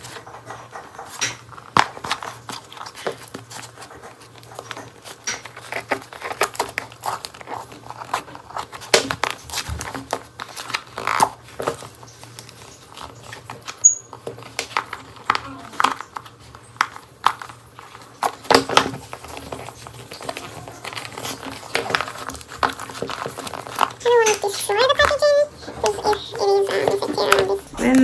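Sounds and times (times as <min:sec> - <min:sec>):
envelope packaging crinkling: 0:00.0 - 0:28.0.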